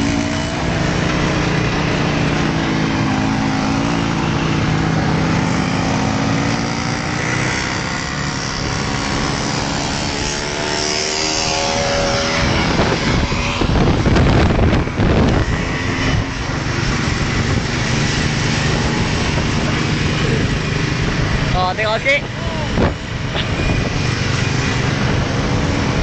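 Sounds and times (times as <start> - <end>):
small motorcycle engines: 0.0 - 26.0
wind buffeting microphone: 0.0 - 26.0.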